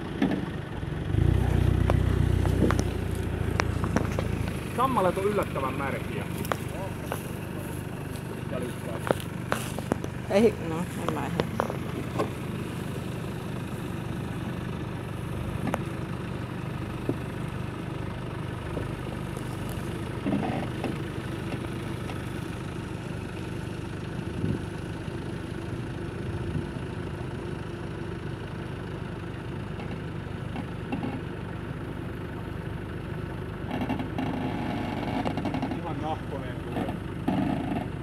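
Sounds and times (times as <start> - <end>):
car engine at low revs: 0.0 - 38.0.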